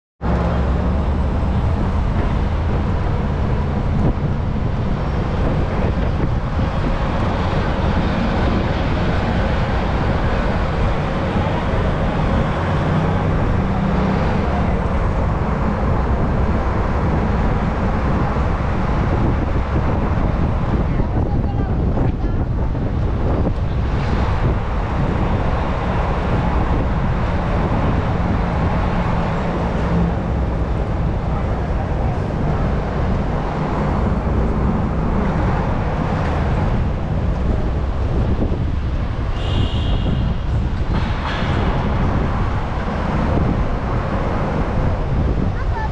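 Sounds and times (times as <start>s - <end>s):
city traffic rumble: 0.2s - 45.9s
moving bus: 0.2s - 45.9s
wind on microphone: 0.2s - 45.9s.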